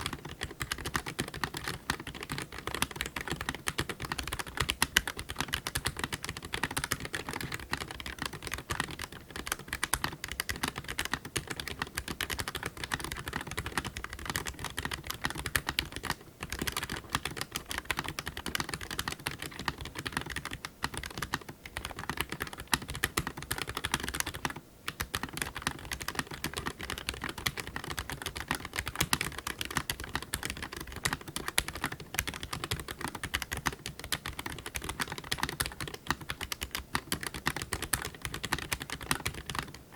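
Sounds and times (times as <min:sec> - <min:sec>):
mechanical keyboard typing: 0:00.0 - 0:39.8.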